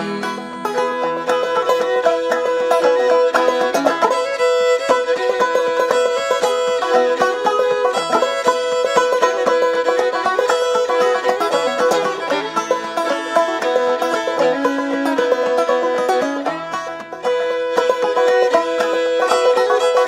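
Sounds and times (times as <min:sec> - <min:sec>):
fast picked banjo: 0:00.0 - 0:20.0
held fiddle note: 0:00.0 - 0:20.0.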